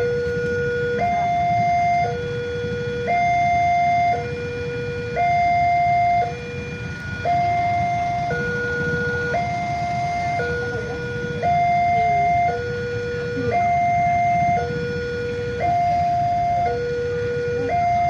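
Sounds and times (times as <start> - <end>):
two-tone crossing alarm: 0.0 - 18.0.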